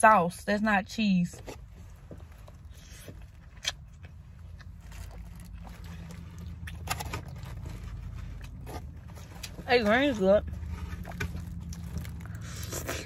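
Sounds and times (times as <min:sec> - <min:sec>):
low car cabin rumble: 0:00.0 - 0:13.0
quiet chewing and mouth sounds: 0:01.4 - 0:09.6, 0:10.4 - 0:13.0.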